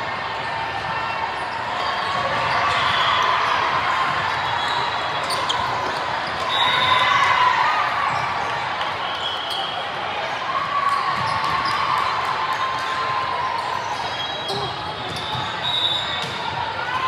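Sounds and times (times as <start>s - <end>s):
echoing crowd hubbub: 0.0s - 17.0s
sneakers squeaking: 0.4s - 10.0s, 10.6s - 16.8s.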